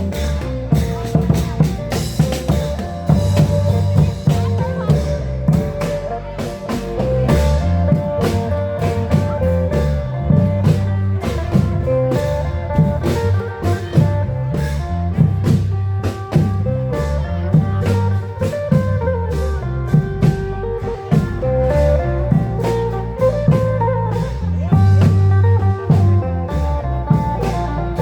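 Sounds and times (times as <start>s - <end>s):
fast drum beat: 0.0s - 28.0s
plucked string melody: 0.0s - 28.0s
steady bass line: 0.0s - 28.0s.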